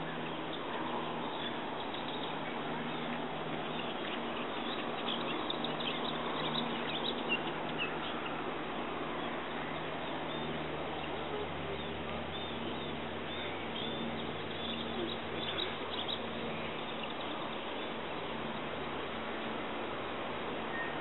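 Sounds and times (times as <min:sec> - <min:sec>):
birds chirping faintly: 0:00.0 - 0:21.0
outdoor background hiss: 0:00.0 - 0:21.0.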